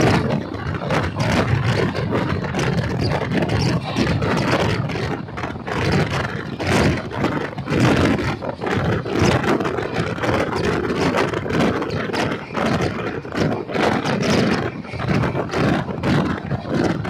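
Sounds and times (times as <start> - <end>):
track clacks: 0.0 - 17.0
train wheels rumbling on rails: 0.0 - 17.0.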